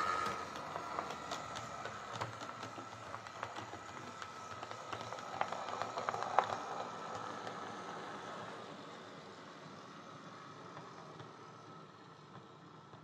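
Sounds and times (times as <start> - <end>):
model train motor whine: 0.0 - 13.0
wheels clicking on rails: 0.0 - 13.0.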